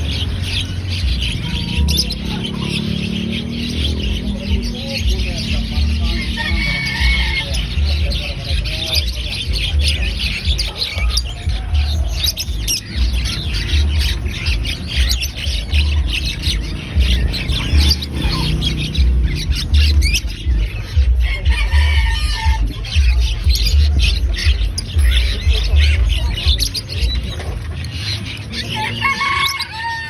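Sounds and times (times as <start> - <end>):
music with pulsing bass beat: 0.0 - 28.6
poultry calling and squawking: 0.0 - 30.0.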